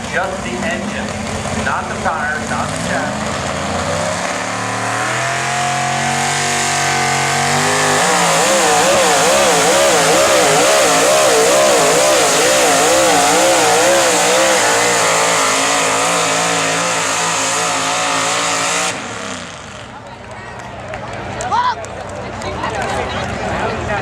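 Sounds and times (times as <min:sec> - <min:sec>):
truck engine at full throttle: 0:00.0 - 0:24.0.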